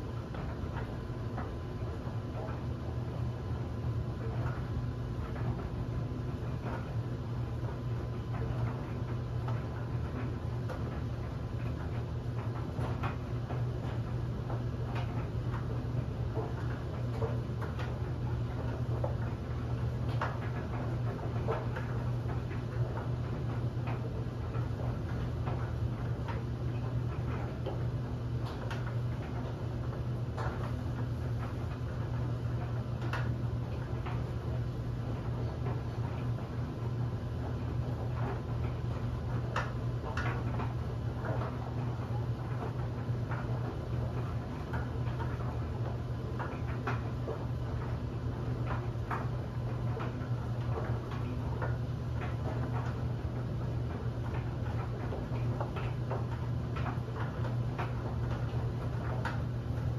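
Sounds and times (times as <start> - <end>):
clothes dryer humming: 0.0 - 59.9.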